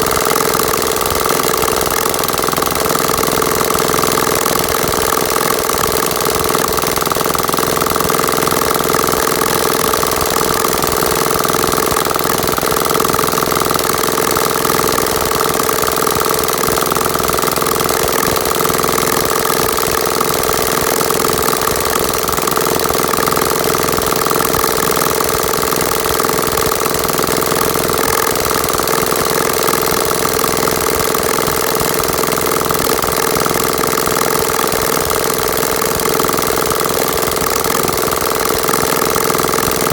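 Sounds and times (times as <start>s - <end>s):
engine chugging steadily: 0.0s - 39.9s.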